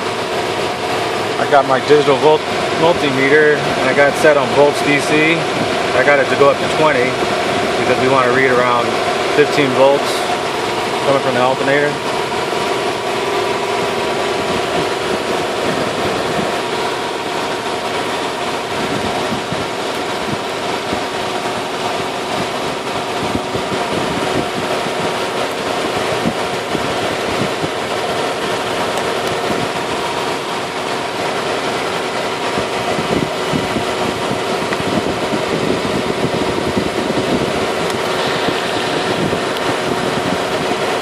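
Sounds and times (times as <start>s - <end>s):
truck engine idling: 0.0s - 41.0s.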